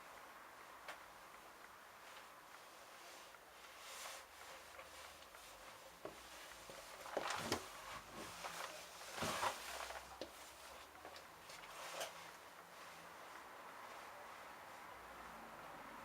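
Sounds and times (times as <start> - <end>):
washing machine drum swishing laundry: 2.0 - 15.2.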